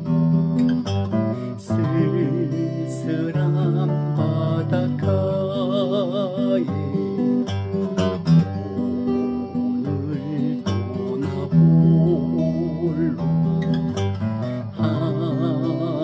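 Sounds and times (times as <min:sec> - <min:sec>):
acoustic guitar picked and strummed: 0:00.0 - 0:16.0.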